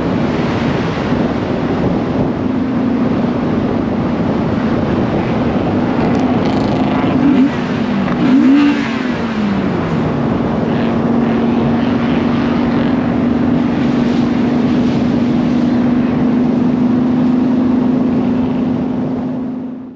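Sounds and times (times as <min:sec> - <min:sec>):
road and wind noise: 0:00.0 - 0:19.9.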